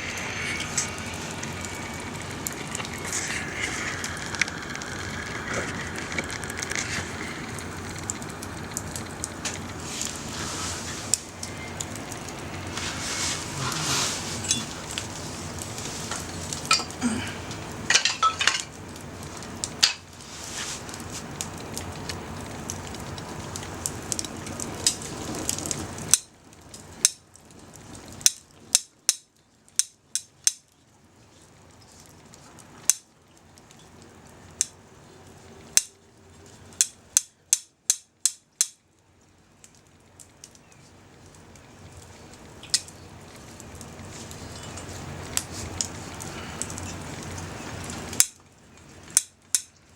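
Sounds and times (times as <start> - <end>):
fire crackling and popping: 0.0 - 49.9
sausages sizzling over fire: 0.0 - 49.9.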